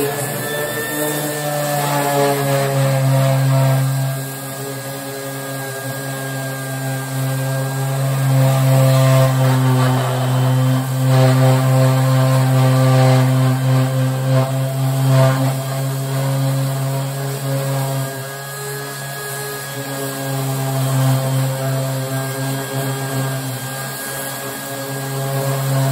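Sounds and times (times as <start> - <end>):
orbital sander humming: 0.0 - 25.9
sander pad grinding on metal: 0.0 - 25.9.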